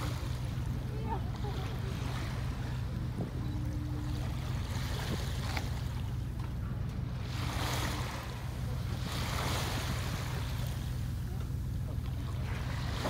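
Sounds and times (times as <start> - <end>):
boat engine droning: 0.0 - 13.0
sea wash: 0.0 - 13.0.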